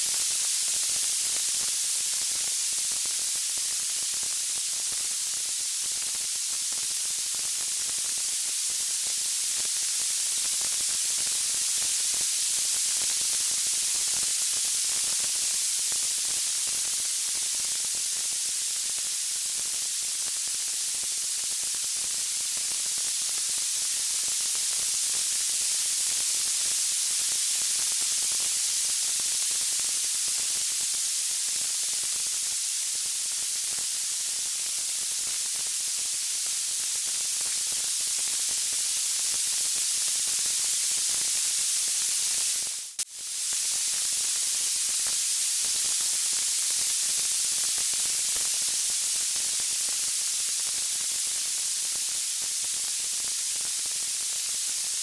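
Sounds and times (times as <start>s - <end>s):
high-pitched white noise hiss: 0.0s - 55.0s.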